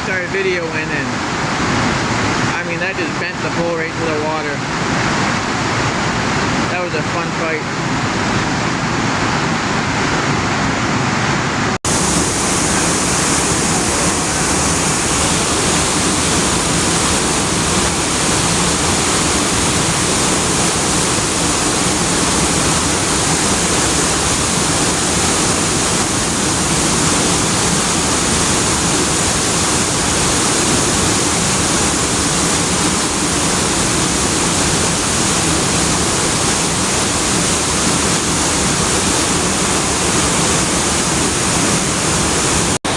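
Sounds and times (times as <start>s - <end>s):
river water rushing: 0.0s - 42.9s.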